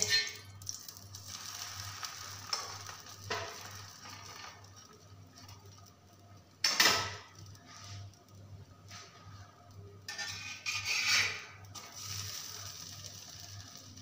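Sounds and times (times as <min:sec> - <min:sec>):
ghee sizzling on a hot pan: 0:00.0 - 0:14.0.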